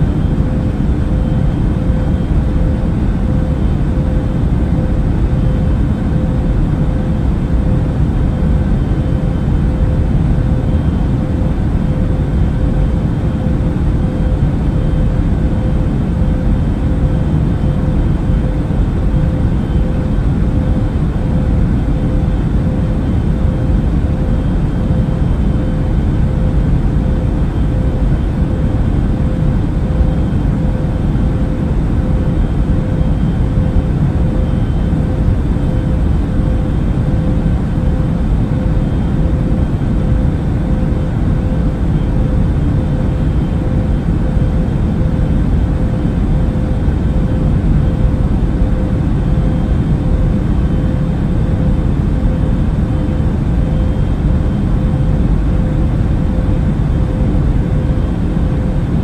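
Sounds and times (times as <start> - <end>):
airplane cabin rumble: 0.0 - 59.0
faint constant hum: 0.0 - 59.0.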